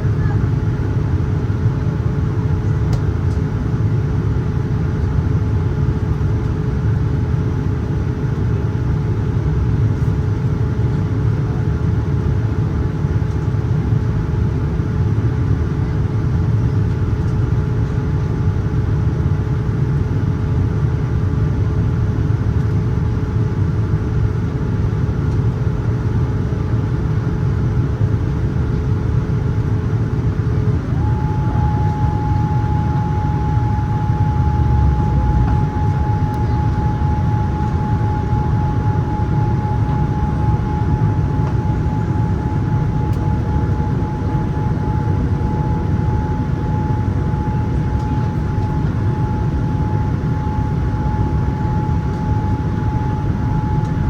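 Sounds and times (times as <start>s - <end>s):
airplane cabin rumble: 0.0s - 54.0s
constant hum: 0.0s - 54.0s.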